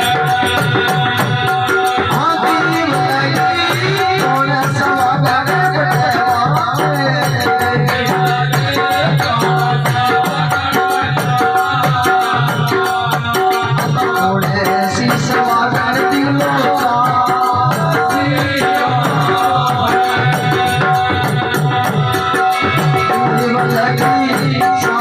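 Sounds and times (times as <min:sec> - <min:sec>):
jingling shaken percussion: 0:00.0 - 0:25.0.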